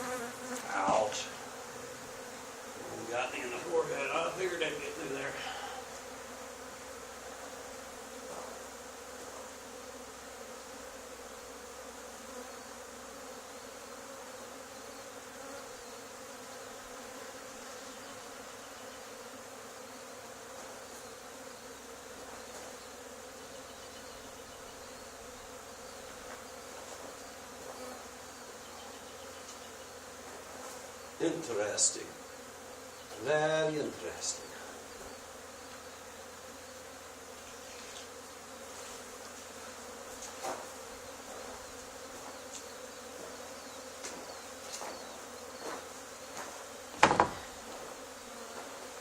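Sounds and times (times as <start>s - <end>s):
swarm of bees buzzing: 0.0s - 49.0s.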